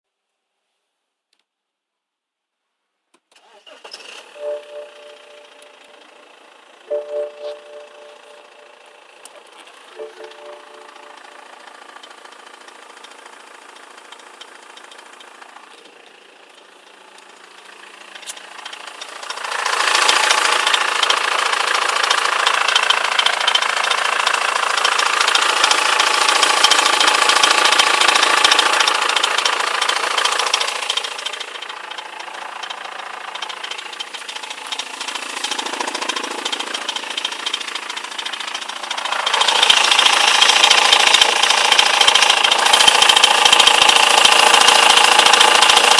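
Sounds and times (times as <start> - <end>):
diesel engine clattering: 3.4 - 45.9.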